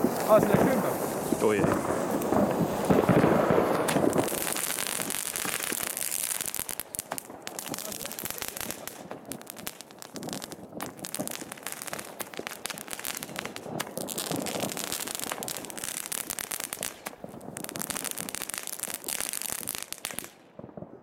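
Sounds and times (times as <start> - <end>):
firework crackling: 0.0 - 21.0.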